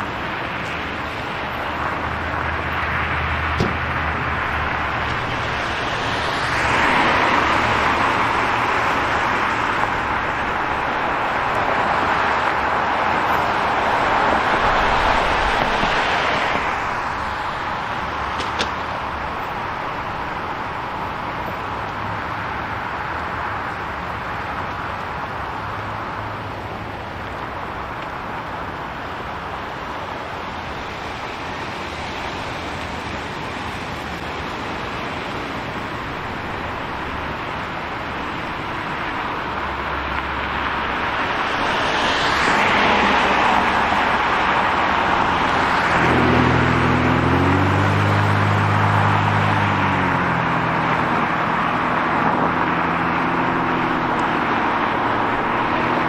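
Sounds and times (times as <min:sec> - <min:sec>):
steady road noise: 0:00.0 - 0:56.0
vehicle engine hum: 0:00.0 - 0:56.0
vehicle passing: 0:00.8 - 0:20.7, 0:31.0 - 0:56.0.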